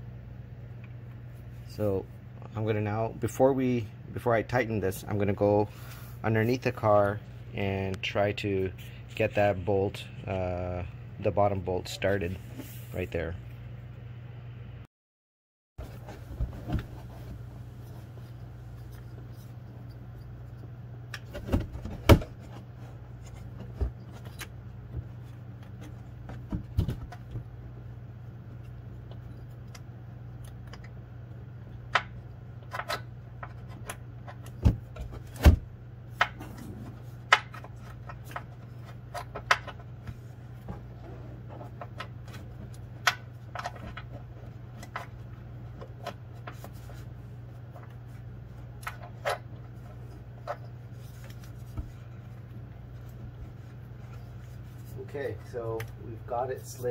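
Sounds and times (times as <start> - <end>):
steady low hum: 0.0 - 14.9, 15.8 - 56.9.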